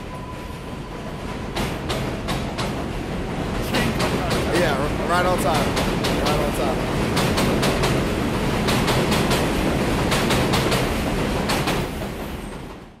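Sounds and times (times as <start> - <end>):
train rumble overhead: 0.0 - 13.0.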